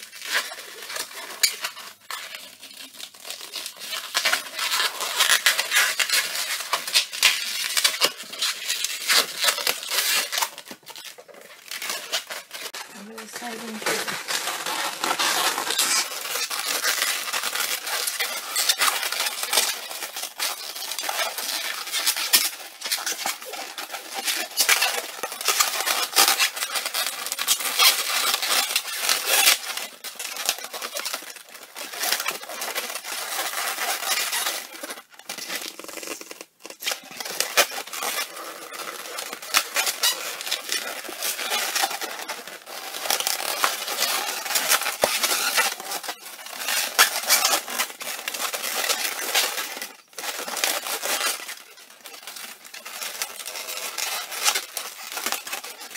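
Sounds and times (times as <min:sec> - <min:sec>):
balloons squeaking and rubbing: 0:00.0 - 0:55.9.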